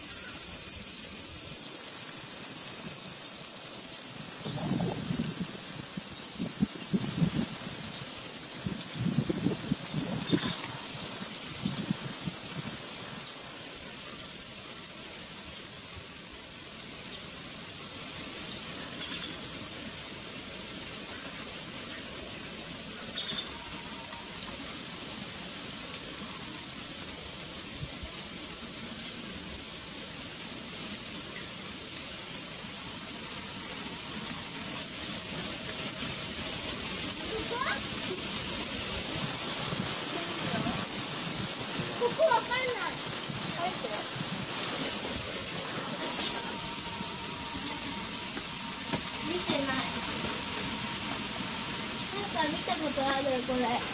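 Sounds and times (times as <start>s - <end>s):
insect chorus drone: 0.0s - 53.9s.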